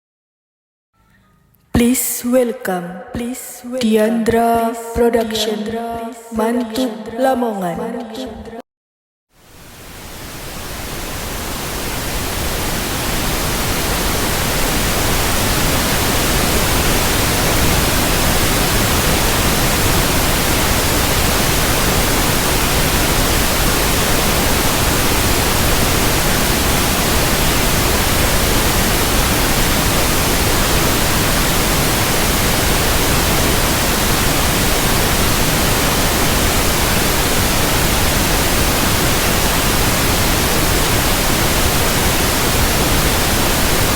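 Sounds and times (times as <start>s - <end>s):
pink noise through loudspeakers: 1.0s - 8.6s, 9.4s - 43.9s.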